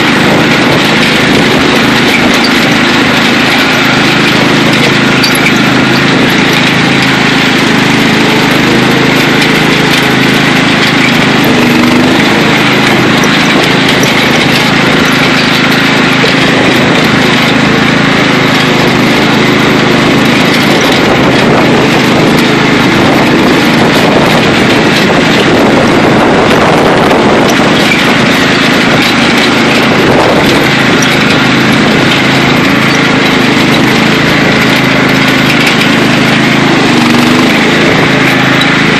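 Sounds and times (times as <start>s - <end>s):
lawn mower engine at full throttle: 0.0s - 38.9s.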